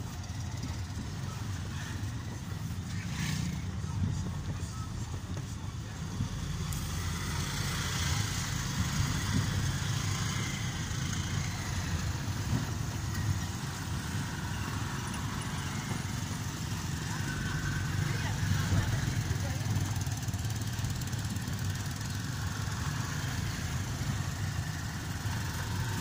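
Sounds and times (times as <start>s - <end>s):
car engine and road rumble: 0.0s - 26.0s
surrounding traffic: 0.0s - 26.0s.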